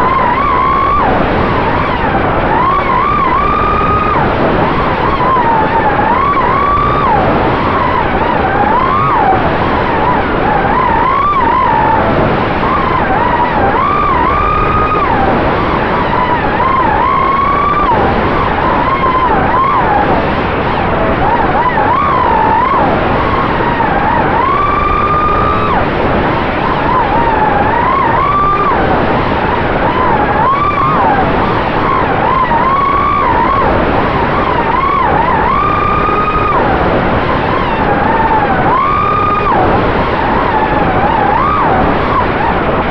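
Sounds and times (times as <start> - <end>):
drone motors whining: 0.0 - 42.8.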